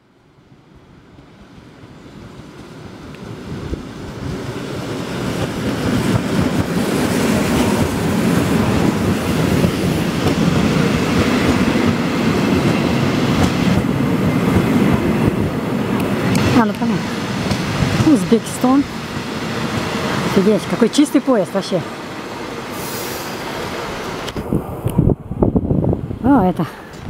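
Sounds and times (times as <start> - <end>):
passenger train rumbling past: 0.0 - 27.0.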